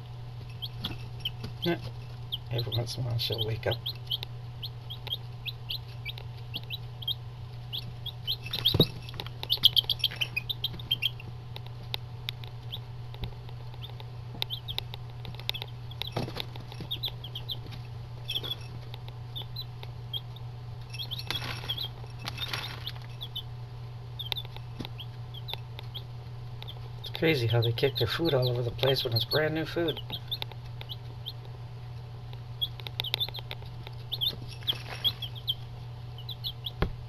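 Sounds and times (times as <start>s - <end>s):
chicks scratching and rustling: 0.0s - 36.8s
chicks peeping: 0.0s - 37.0s
steady low hum: 0.0s - 37.0s.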